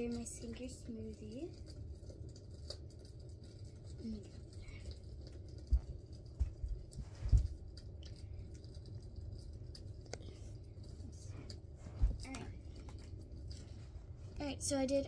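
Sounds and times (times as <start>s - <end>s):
faint clicks and rustle: 0.0s - 15.0s.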